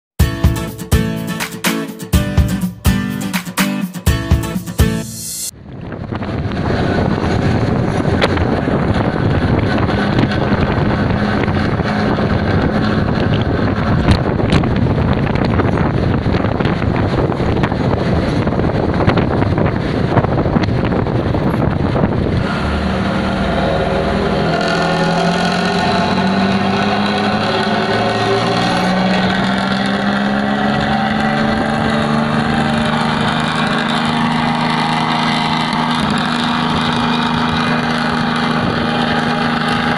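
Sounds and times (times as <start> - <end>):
bus diesel engine roaring: 4.2 - 39.9.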